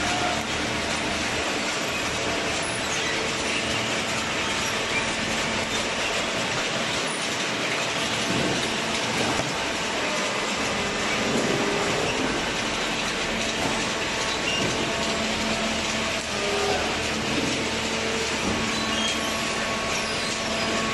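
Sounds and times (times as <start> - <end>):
paper baler running: 0.0 - 20.9.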